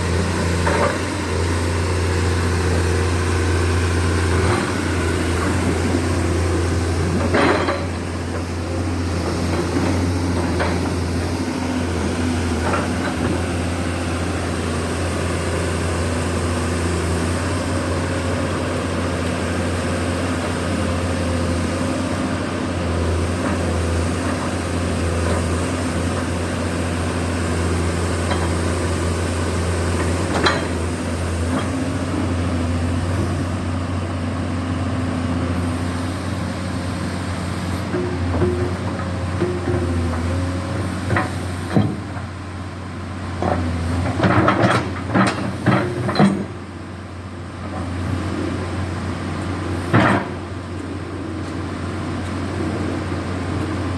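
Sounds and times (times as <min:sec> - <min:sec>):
excavator diesel engine humming: 0:00.0 - 0:53.9.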